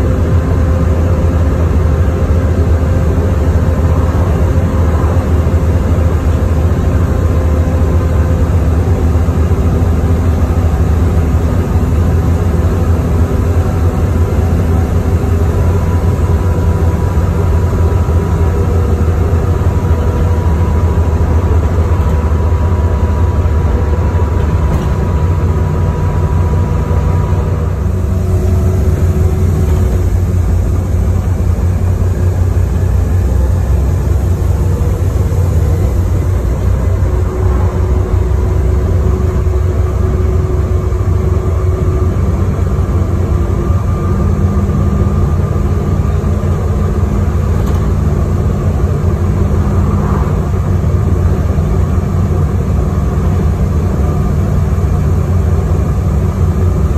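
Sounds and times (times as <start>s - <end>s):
bus engine drone: 0.0s - 56.9s
road noise: 0.0s - 56.9s.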